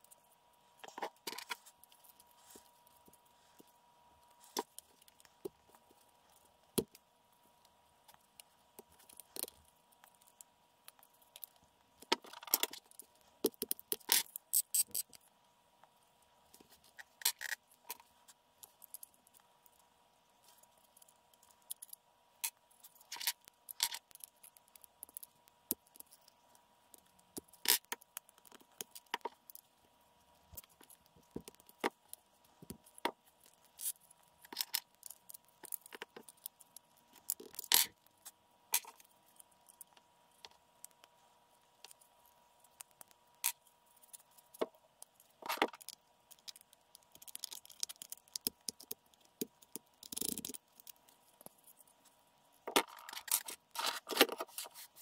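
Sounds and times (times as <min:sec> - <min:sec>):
clicks and scrapes of small parts: 0:00.0 - 0:07.0, 0:07.6 - 0:29.7, 0:30.3 - 0:55.0.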